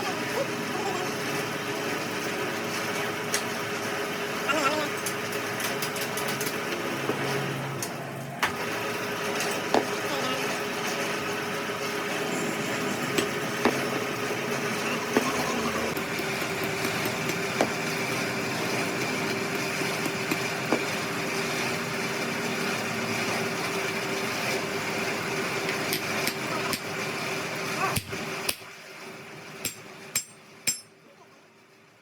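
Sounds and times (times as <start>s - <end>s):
motor machine running: 0.0s - 30.2s.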